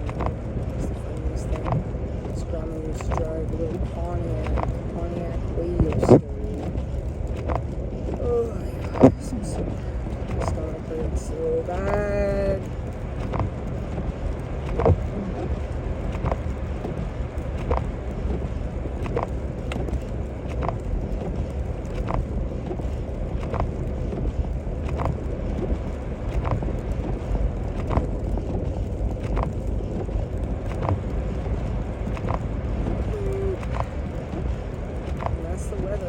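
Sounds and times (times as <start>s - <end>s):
road and engine rumble: 0.0s - 36.0s
windshield wipers thumping: 0.0s - 36.0s.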